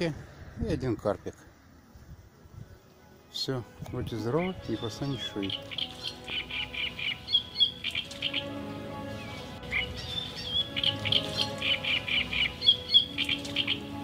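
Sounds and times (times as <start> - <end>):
soft music with held tones: 2.3 - 14.0
birds chirping: 2.8 - 14.0.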